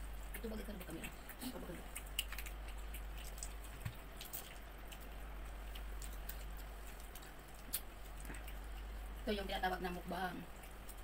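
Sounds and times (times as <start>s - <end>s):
low steady hum: 0.0s - 11.0s
wet eating clicks and smacks: 0.0s - 11.0s.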